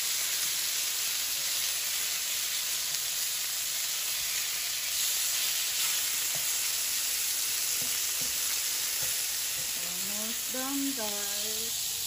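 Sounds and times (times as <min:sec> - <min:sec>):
fish frying in a pan: 0:00.0 - 0:12.0.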